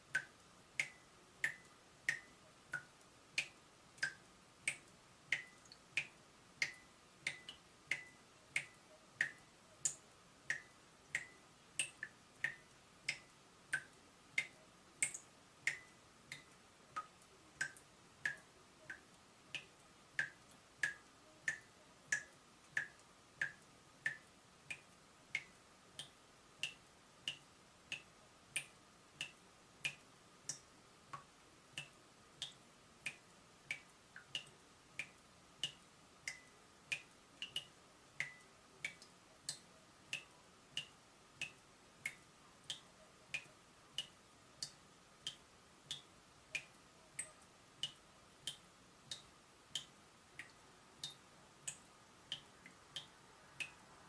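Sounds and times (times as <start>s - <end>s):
water dripping from tap: 0.1s - 53.8s.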